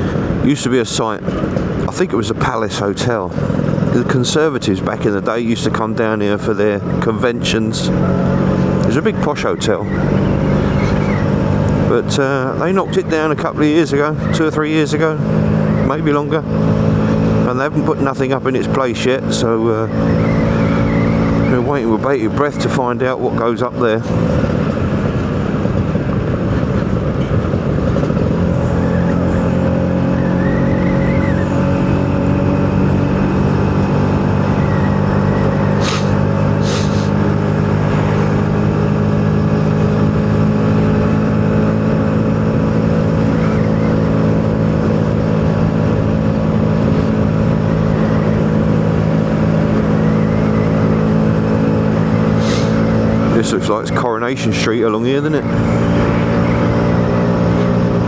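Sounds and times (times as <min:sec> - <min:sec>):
two-stroke engine running: 0:01.3 - 0:58.0.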